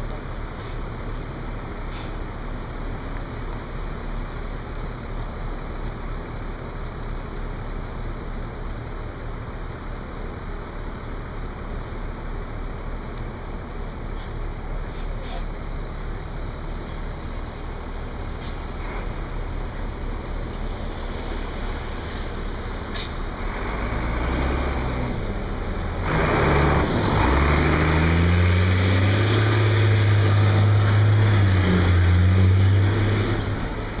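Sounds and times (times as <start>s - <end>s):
low engine hum: 0.0s - 34.0s
traffic noise: 0.0s - 34.0s.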